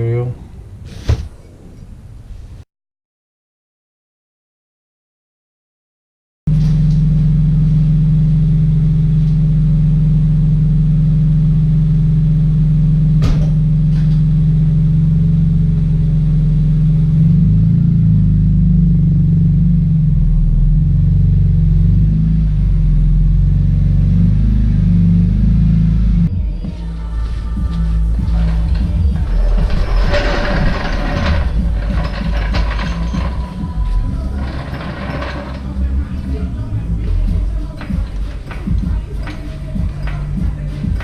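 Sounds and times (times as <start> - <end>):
car engine running loudly: 6.5 - 26.4, 27.6 - 41.0.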